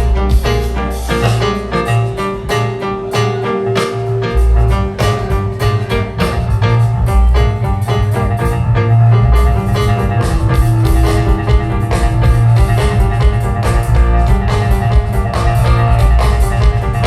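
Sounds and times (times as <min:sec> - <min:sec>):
bass guitar: 0:00.0 - 0:17.0
drum kit: 0:00.0 - 0:17.0
electric guitar: 0:00.0 - 0:17.0
keyboards: 0:00.0 - 0:17.0.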